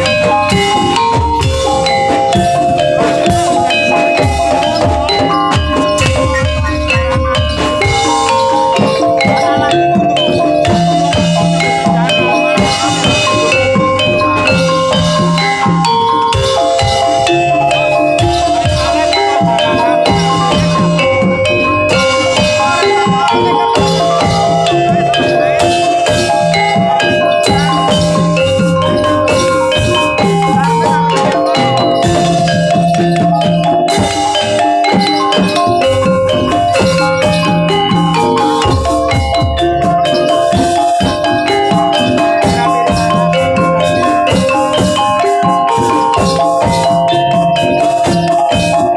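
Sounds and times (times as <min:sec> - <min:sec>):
drum strokes: 0:00.0 - 0:48.9
metallophones ringing melody: 0:00.0 - 0:48.9.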